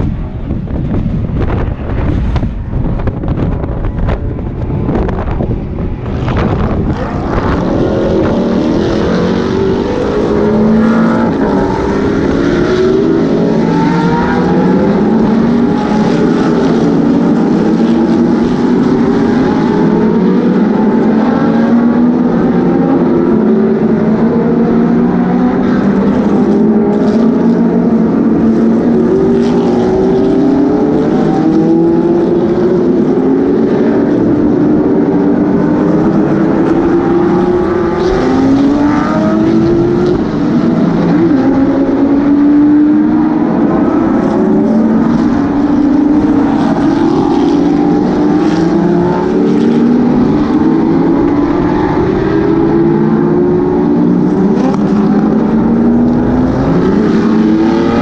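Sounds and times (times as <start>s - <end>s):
race car engines accelerating: 0.0s - 58.0s
wind buffeting microphone: 0.0s - 58.0s.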